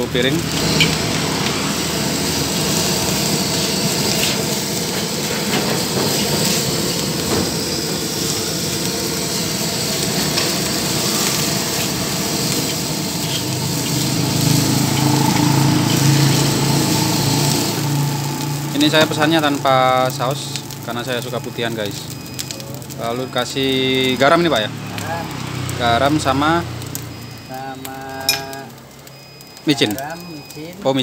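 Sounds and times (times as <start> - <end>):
rice sizzling in a wok: 0.0 - 31.0.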